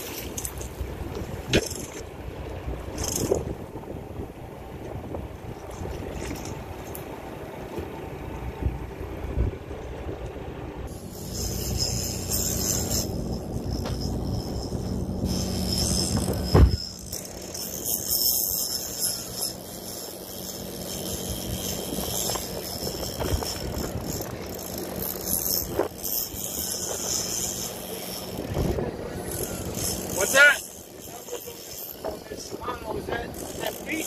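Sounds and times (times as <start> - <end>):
boat engine running: 0.0 - 34.0
sea noise: 0.0 - 34.0
wind: 0.0 - 34.0.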